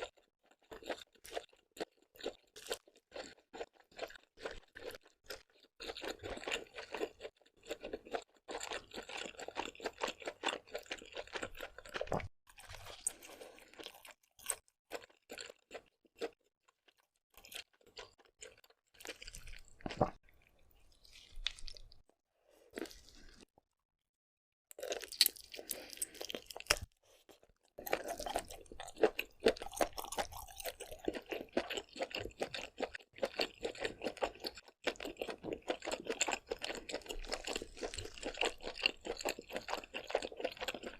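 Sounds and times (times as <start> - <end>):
chewing and crunching seafood: 0.0 - 23.6, 24.7 - 40.9.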